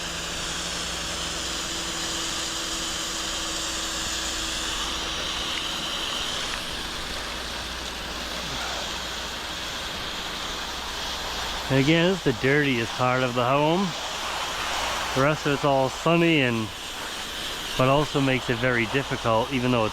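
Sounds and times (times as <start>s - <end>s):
pressure washer engine hum: 0.0s - 19.9s
water spraying hiss: 0.0s - 19.9s.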